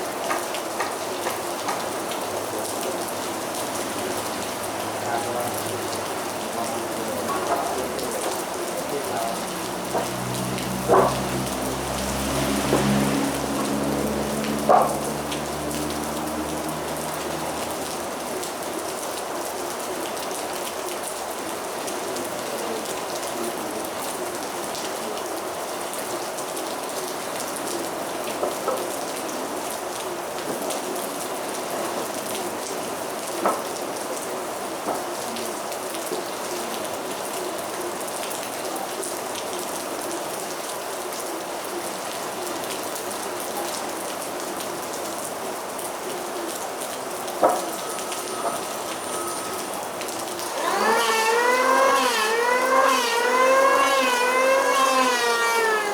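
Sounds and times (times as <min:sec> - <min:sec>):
heavy rain patter: 0:00.0 - 0:51.1.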